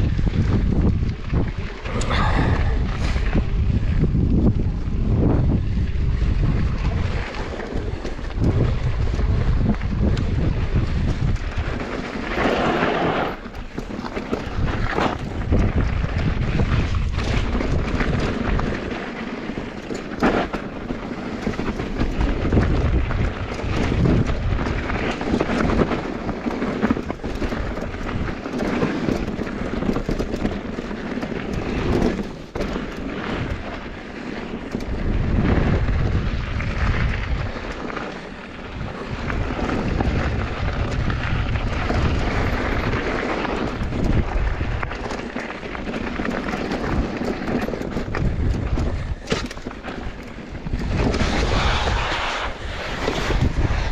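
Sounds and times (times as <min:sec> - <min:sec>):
tyres rumbling on gravel: 0:00.0 - 0:53.9
wind buffeting microphone: 0:00.0 - 0:53.9
bike knocking over bumps: 0:06.7 - 0:37.9, 0:38.6 - 0:51.6.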